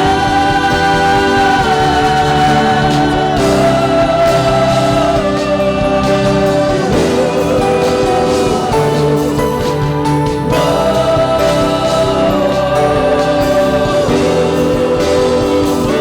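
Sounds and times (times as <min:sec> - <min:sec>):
worship band playing slow chords: 0:00.0 - 0:16.0.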